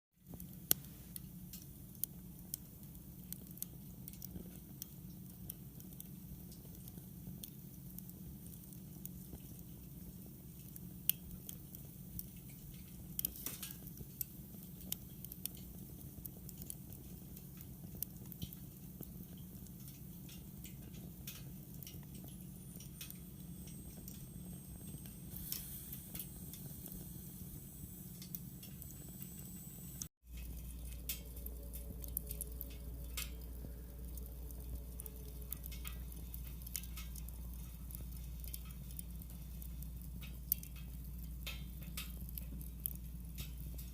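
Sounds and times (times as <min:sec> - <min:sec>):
steady low hum: 0:00.2 - 0:43.9
wood fire crackling: 0:00.2 - 0:43.9.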